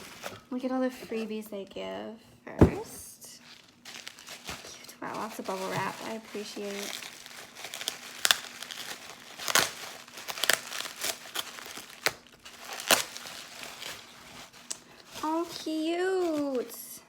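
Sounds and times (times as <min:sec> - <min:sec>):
bubble wrap crinkling: 0:00.0 - 0:00.6, 0:03.4 - 0:16.9.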